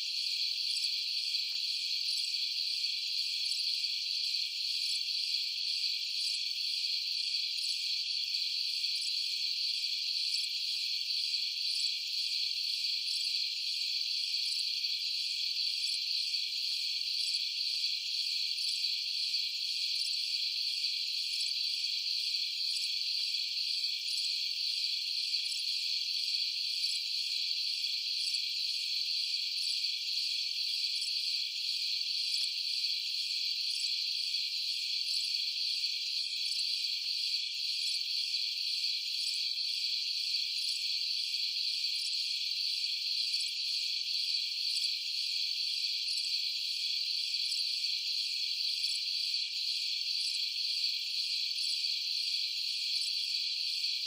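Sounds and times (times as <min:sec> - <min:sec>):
night insects chirring: 0:00.0 - 0:54.0.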